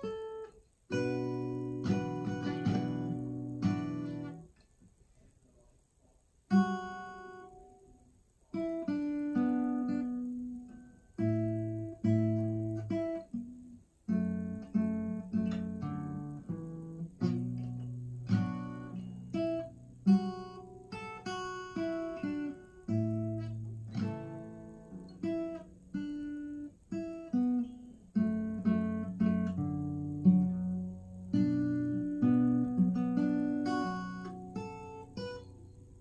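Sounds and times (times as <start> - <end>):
acoustic guitar: 0.0 - 5.7, 6.5 - 36.0.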